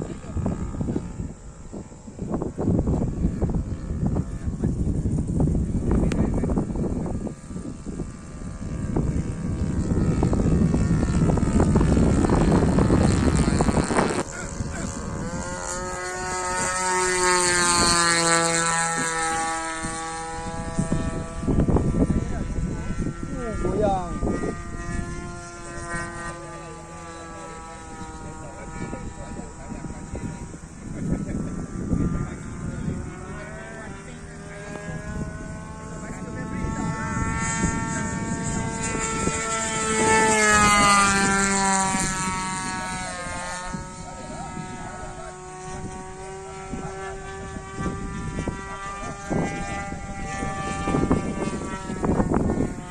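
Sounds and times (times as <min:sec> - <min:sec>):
model plane engine passing: 0:00.0 - 0:52.9
wind rumbling on microphone: 0:00.0 - 0:52.9.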